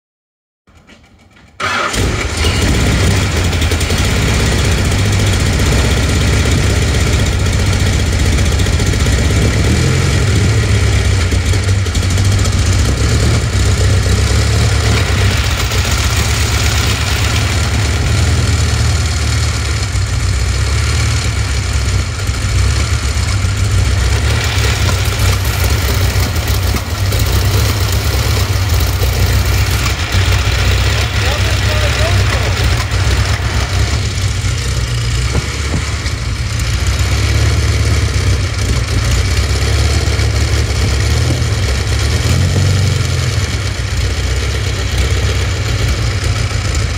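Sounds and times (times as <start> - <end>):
aero engine idling: 0.7 - 46.9.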